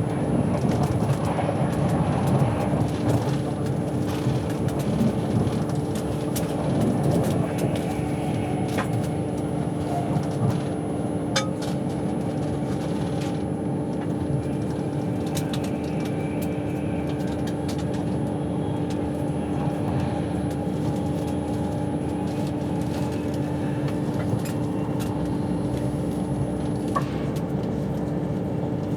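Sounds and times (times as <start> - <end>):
running gear hum: 0.0 - 28.9
train wheels rumbling on rails: 0.0 - 28.9.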